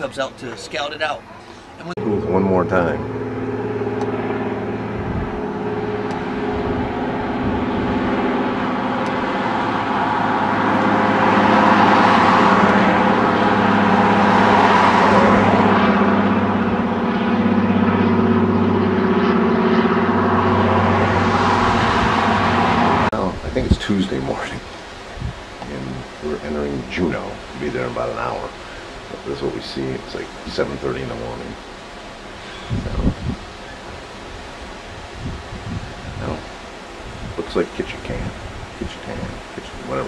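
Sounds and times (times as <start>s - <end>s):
road traffic rushing: 0.0s - 40.0s
engine running low hum: 1.2s - 40.0s.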